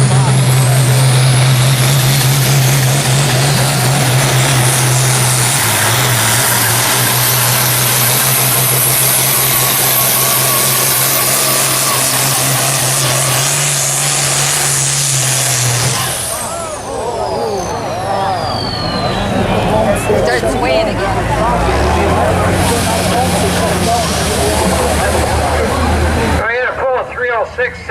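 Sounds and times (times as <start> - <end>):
tractor engine running under load: 0.0 - 27.9.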